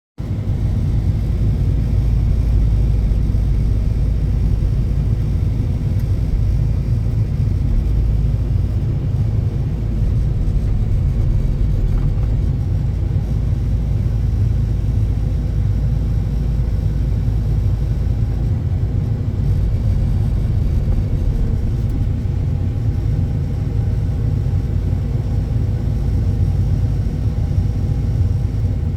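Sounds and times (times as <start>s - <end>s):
heavy vehicle engine rumbling: 0.2s - 28.9s.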